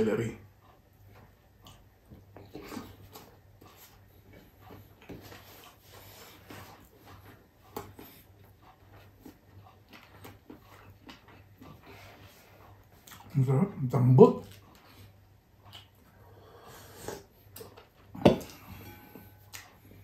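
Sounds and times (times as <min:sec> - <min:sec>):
low steady hum: 0:00.0 - 0:20.0
person chewing rice: 0:00.5 - 0:13.4, 0:14.4 - 0:20.0.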